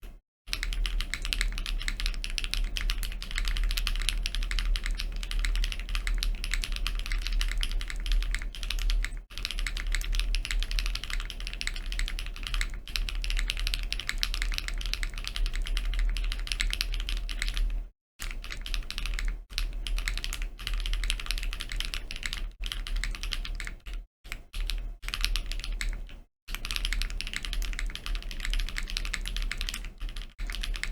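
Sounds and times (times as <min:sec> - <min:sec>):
fast mechanical keyboard typing: 0:00.5 - 0:30.9.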